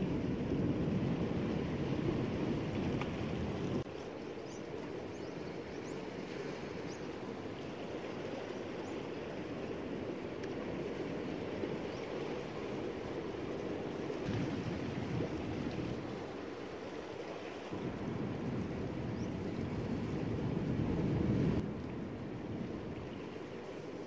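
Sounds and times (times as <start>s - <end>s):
wind rumble on microphone: 0.0s - 3.9s, 4.7s - 24.0s
surf washing over rocks: 0.0s - 24.0s.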